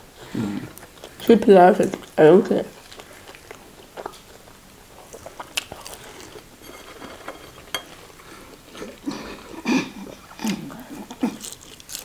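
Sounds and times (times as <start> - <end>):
soft chewing: 0.1 - 12.0.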